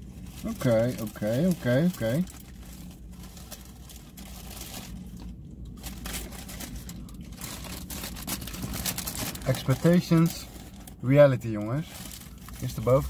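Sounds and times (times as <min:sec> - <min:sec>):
low steady hum: 0:00.0 - 0:13.0
paper wrapper crinkling: 0:00.0 - 0:13.0.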